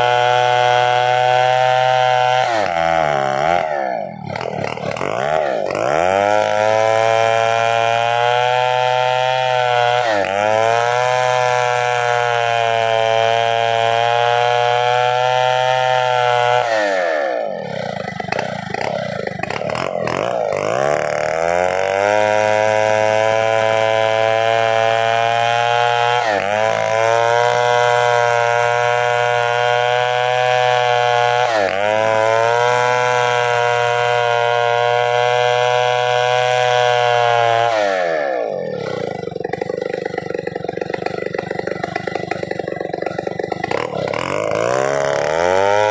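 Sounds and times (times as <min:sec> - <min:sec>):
chainsaw running: 0:00.0 - 0:45.9.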